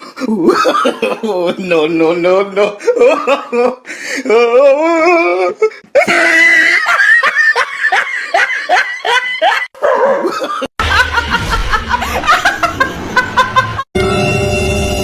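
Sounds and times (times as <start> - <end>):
person laughing hard: 0.2 - 1.5, 2.8 - 13.9.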